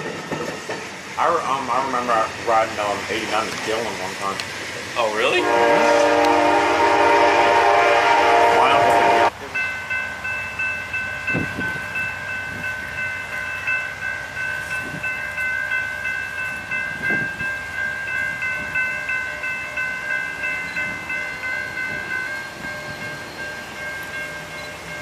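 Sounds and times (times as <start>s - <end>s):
railroad crossing bell ringing: 0.0s - 4.4s, 5.0s - 25.0s.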